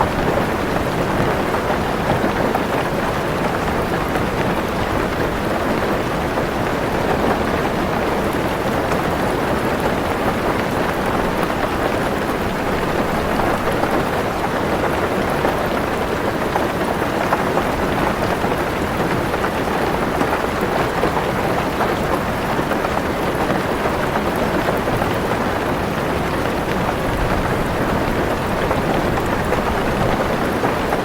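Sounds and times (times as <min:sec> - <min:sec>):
rain on a car roof: 0:00.0 - 0:31.0.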